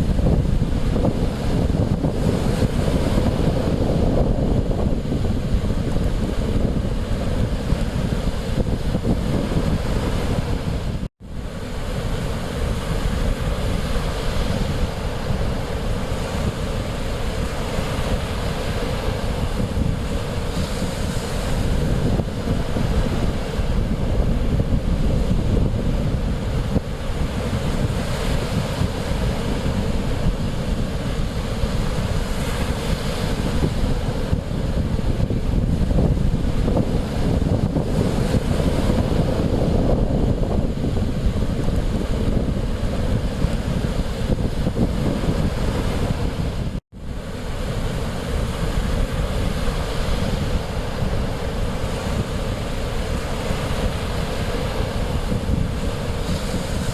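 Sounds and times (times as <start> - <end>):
waves washing onto shore: 0.0 - 56.9
wind buffeting microphone: 0.0 - 56.9.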